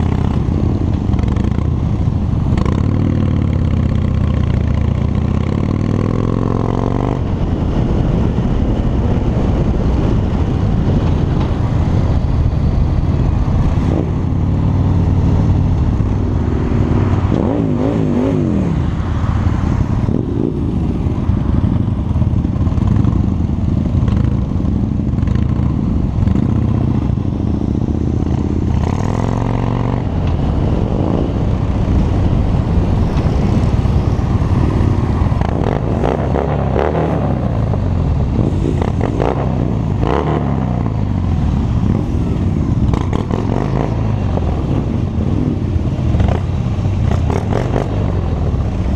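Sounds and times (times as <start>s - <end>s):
motorcycle engine running: 0.0s - 18.8s, 19.7s - 48.9s.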